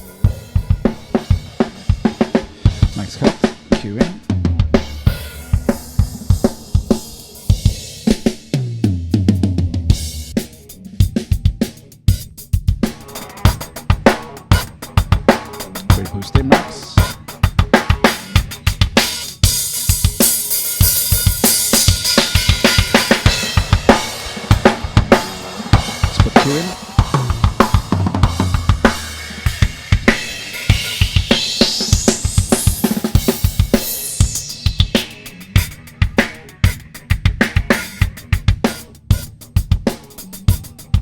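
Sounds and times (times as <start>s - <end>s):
drum kit playing: 0.0s - 41.0s.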